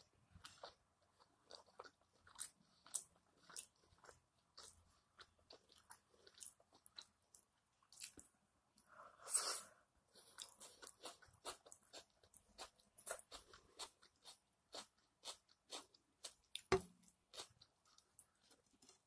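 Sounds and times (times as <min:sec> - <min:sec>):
person chewing: 0:00.4 - 0:08.3, 0:09.4 - 0:19.0.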